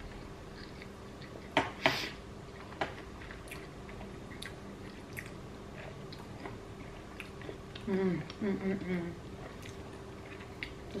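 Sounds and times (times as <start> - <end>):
close chewing and mouth sounds: 0.1 - 1.6, 2.5 - 11.0.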